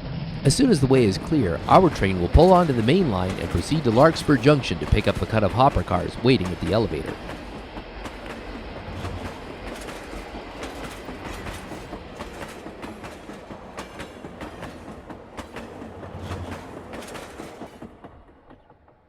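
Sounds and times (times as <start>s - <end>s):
model train rolling: 0.5s - 19.0s
wheels clicking over rail joints: 0.7s - 19.0s.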